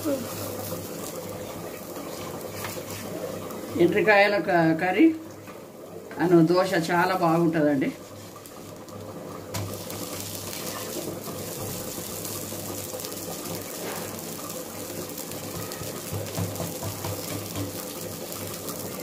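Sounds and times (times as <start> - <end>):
dosa sizzling in oil on griddle: 0.0 - 4.4, 6.5 - 19.0.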